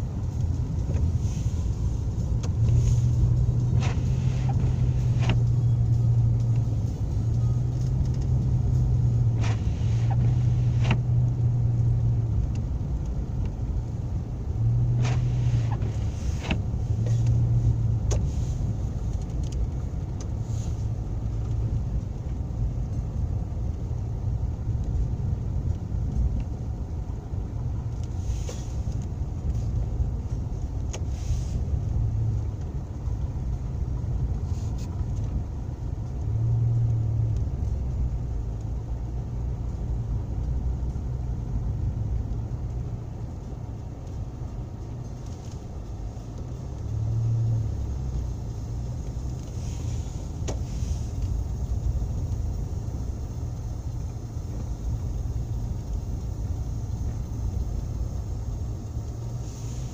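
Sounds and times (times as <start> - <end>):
engine and tyres rumbling: 0.0 - 59.9
low hum: 0.0 - 59.9.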